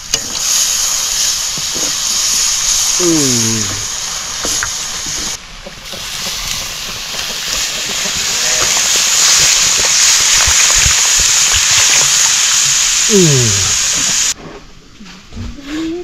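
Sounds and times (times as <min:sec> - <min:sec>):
food sizzling in hot oil: 0:00.0 - 0:14.4.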